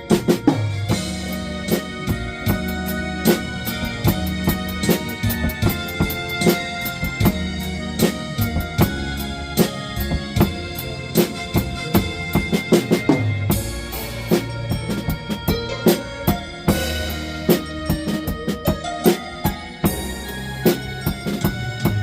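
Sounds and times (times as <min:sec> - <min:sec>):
bass drum and snare strokes: 0:00.0 - 0:22.0
blues backing track: 0:00.0 - 0:22.0
drum fill: 0:00.0 - 0:22.0
drum kit playing: 0:00.0 - 0:22.0.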